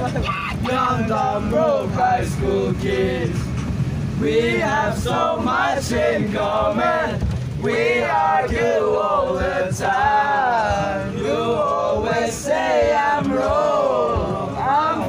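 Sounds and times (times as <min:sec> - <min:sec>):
bus rumbling: 0:00.0 - 0:15.0
men singing and chanting: 0:00.0 - 0:15.0.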